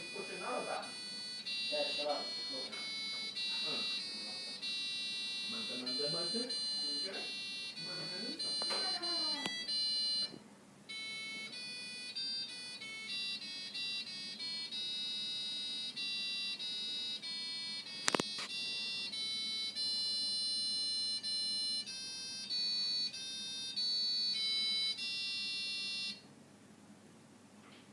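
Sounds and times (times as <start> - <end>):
electronic beeper melody: 0.0 - 26.2.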